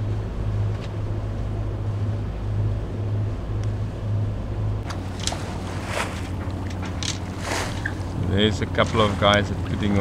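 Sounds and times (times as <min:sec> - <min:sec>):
boat engine humming: 0:00.0 - 0:10.0
water noise: 0:00.0 - 0:10.0
wind: 0:00.0 - 0:10.0.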